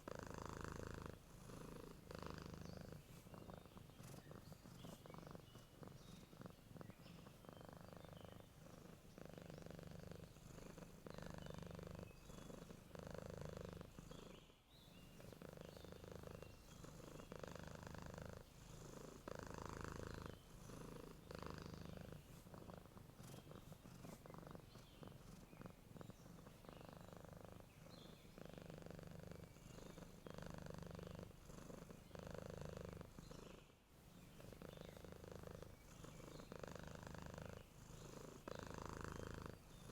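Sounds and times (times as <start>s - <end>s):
cat purring softly: 0.0s - 39.9s.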